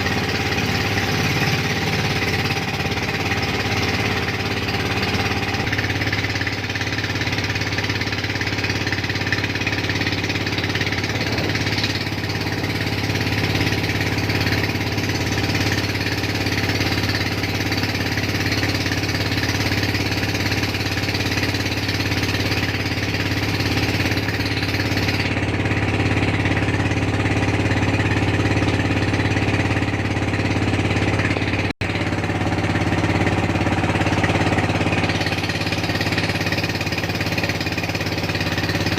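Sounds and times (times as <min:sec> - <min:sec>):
motorboat engine chugging: 0:00.0 - 0:38.9.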